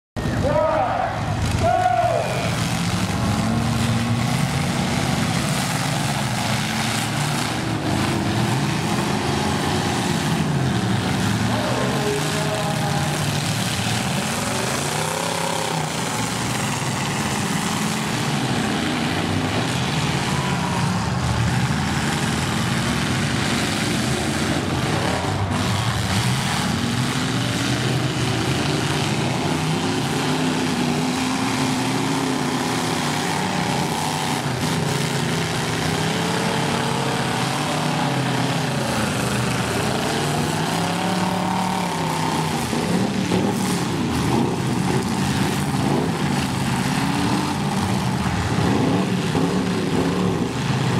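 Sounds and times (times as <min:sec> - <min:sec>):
car engines revving: 0:00.1 - 0:50.9.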